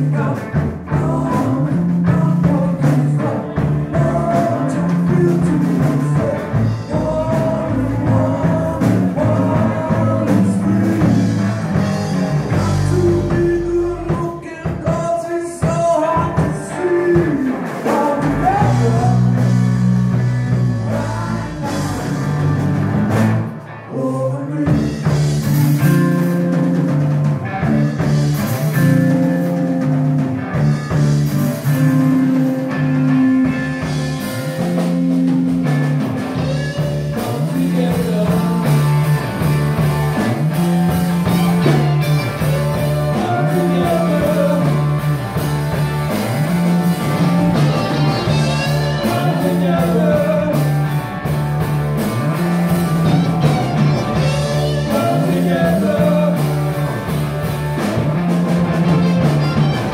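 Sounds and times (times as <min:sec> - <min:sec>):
drum kit: 0:00.0 - 0:23.8, 0:24.5 - 0:59.9
lead singer: 0:00.0 - 0:30.0, 0:30.8 - 0:59.9
bass guitar: 0:00.0 - 0:59.9
electric guitar: 0:00.0 - 0:59.9.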